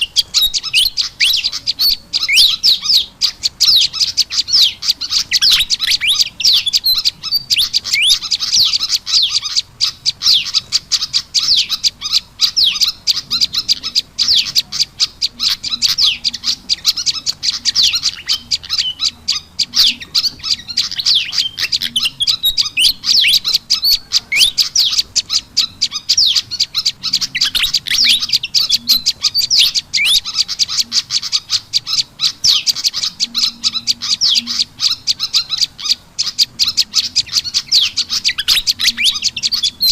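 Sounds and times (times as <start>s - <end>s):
fast high bird chirps and clicks: 0.0s - 39.9s.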